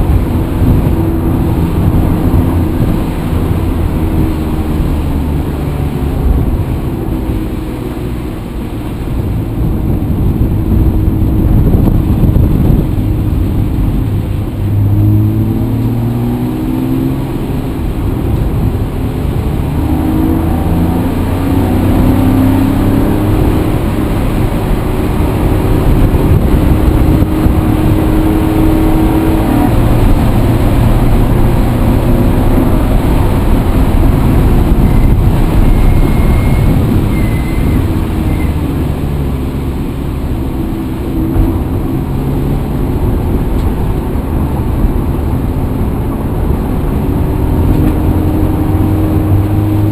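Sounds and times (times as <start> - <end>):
heavy low rumble: 0.0 - 49.9
vehicle engine running: 0.0 - 49.9.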